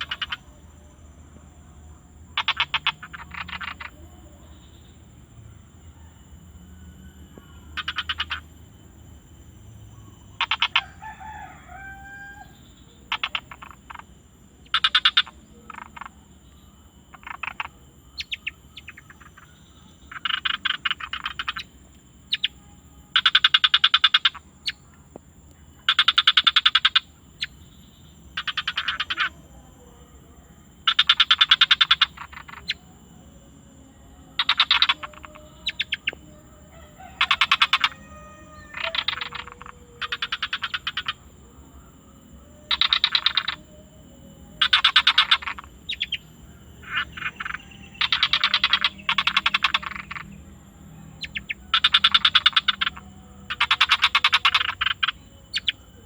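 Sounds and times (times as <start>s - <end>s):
gliding frog call: 0.0s - 0.8s, 2.2s - 25.0s, 25.7s - 29.8s, 30.7s - 56.0s
frogs calling in rapid pulses: 0.0s - 56.0s
steady high-pitched whine: 0.0s - 56.0s.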